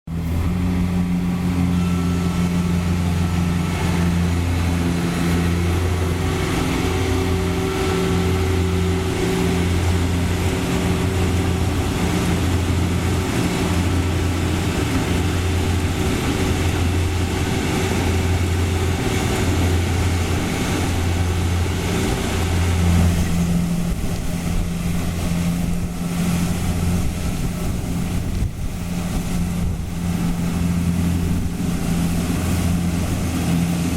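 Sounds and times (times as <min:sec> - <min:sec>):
combine harvester engine drone: 0:00.1 - 0:33.9.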